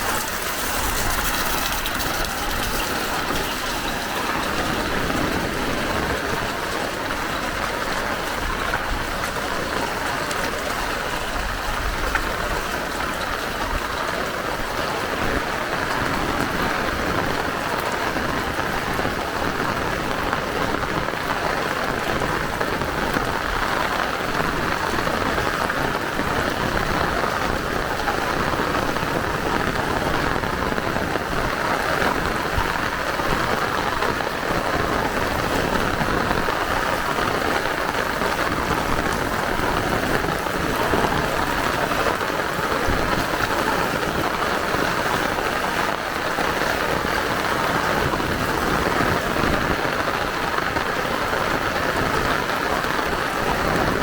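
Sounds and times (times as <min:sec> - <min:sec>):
heavy rain splashing: 0:00.0 - 0:54.0.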